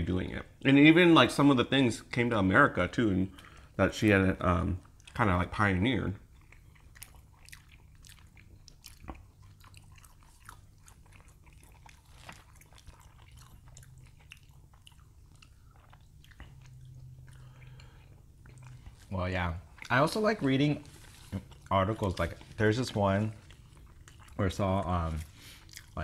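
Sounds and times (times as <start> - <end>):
low steady hum: 0.0 - 26.0
people chewing and eating: 2.8 - 26.0.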